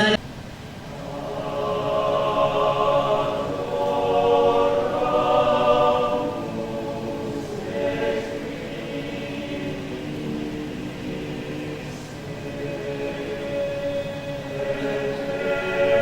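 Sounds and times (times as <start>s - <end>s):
church choir singing: 0.0s - 16.0s.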